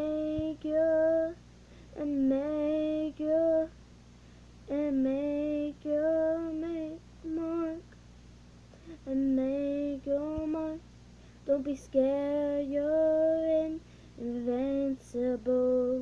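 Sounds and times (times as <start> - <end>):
girl singing unaccompanied: 0.0 - 3.8, 4.6 - 8.0, 8.8 - 16.0.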